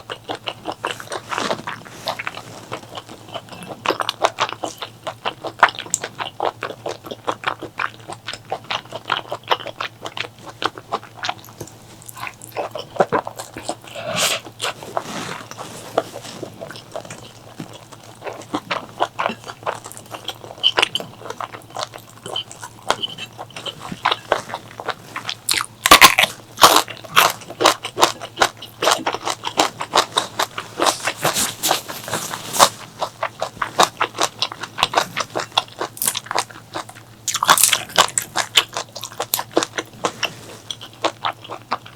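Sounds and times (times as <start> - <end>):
person chewing and biting: 0.0 - 41.9.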